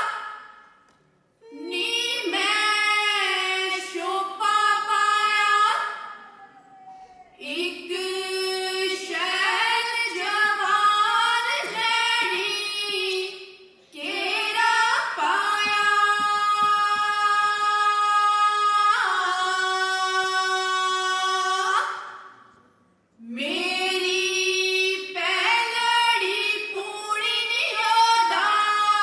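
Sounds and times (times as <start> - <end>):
women singing folk song: 1.5 - 6.2, 7.3 - 22.2, 23.2 - 29.0.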